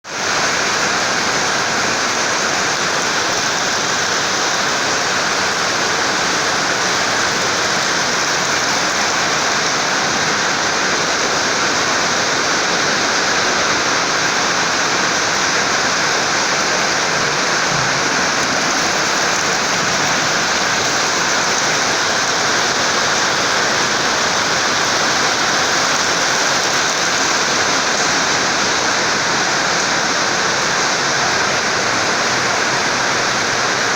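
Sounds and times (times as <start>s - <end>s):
rainwater pouring and splashing: 0.0s - 33.9s.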